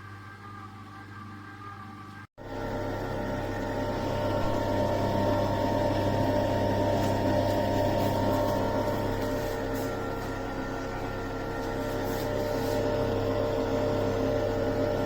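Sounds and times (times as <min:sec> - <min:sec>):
ice cream maker humming: 0:02.4 - 0:15.0.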